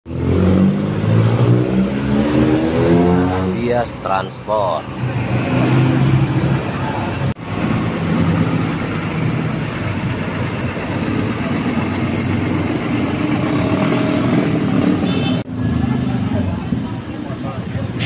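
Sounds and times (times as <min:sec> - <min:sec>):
road and traffic noise: 0:00.0 - 0:18.0
bus engine passing: 0:00.1 - 0:18.0.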